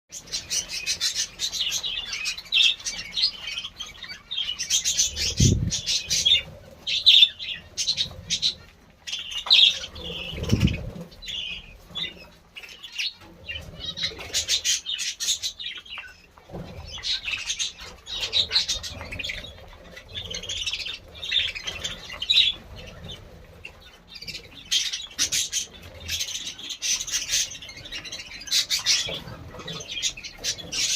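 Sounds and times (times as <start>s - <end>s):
budgerigars chirping: 0.1s - 30.9s.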